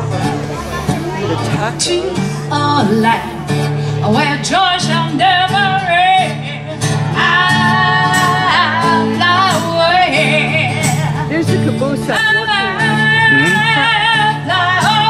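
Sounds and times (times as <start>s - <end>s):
strummed acoustic guitars: 0.0s - 15.0s
person singing with vibrato: 0.6s - 11.2s, 12.2s - 15.0s.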